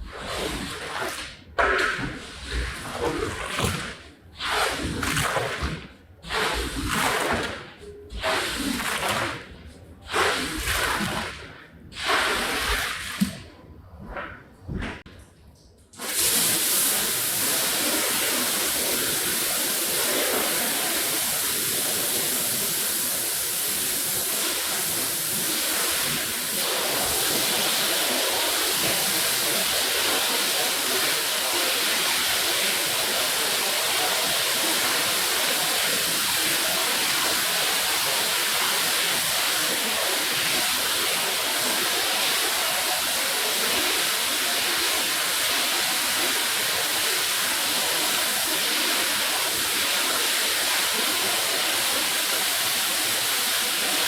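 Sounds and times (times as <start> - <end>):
water spraying onto rug: 0.0 - 13.5, 16.0 - 54.0.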